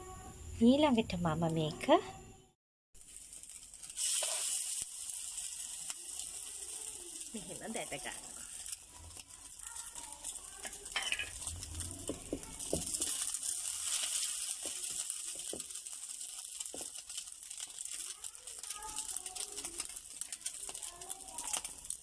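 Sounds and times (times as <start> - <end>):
bread sizzling in hot oil: 3.0 - 22.0.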